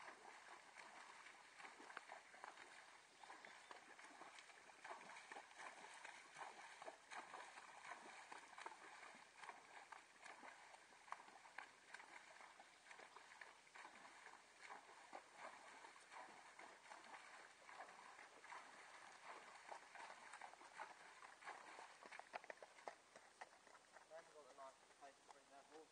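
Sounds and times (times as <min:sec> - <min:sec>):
horse hooves splashing in water: 0:00.0 - 0:25.9.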